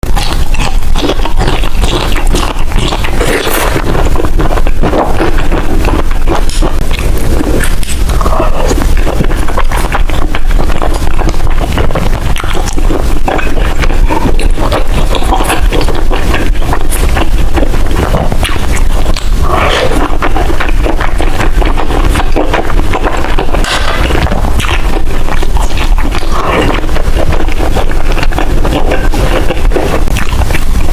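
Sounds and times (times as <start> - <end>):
close chewing and mouth sounds: 0.0 - 30.9.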